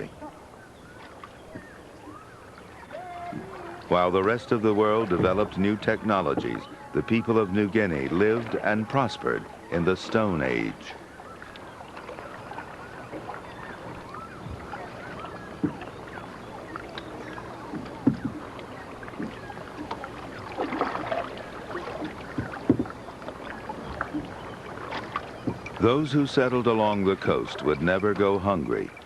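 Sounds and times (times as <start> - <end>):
water washing: 0.0 - 29.0
paddles knocking against hull: 0.8 - 29.0.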